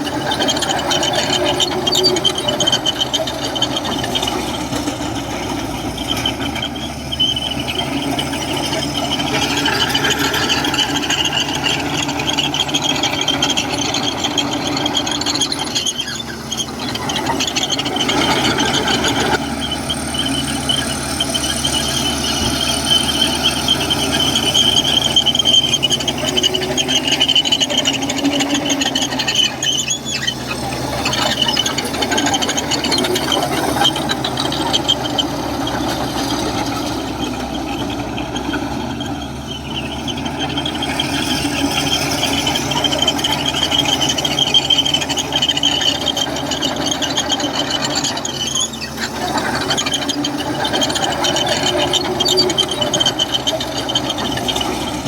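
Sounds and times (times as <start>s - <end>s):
bulldozer diesel engine running: 0.0s - 55.0s
steel tracks squealing and rattling: 0.0s - 55.0s.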